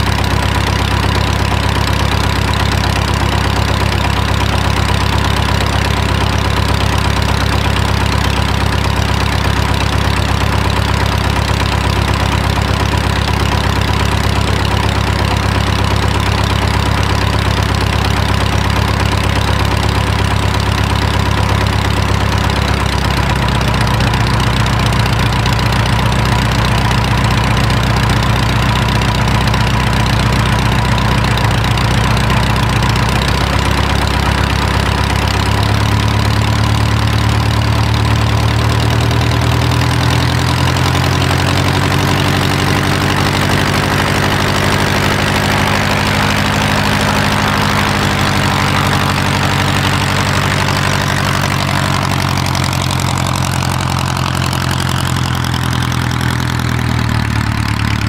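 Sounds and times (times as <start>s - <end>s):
plane engine idling: 0.0s - 58.0s
propeller turning: 0.0s - 58.0s.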